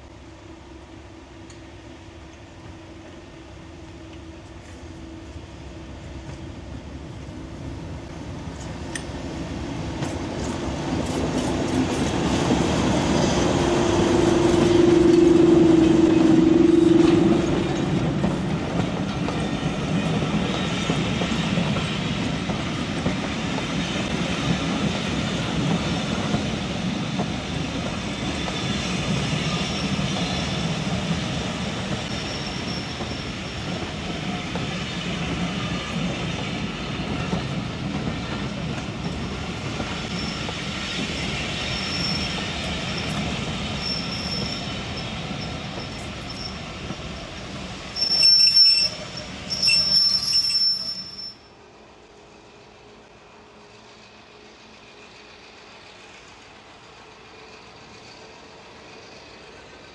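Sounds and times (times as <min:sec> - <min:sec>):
diesel locomotive engine: 0:00.0 - 0:59.9
train coaches rolling on track: 0:00.0 - 0:59.9.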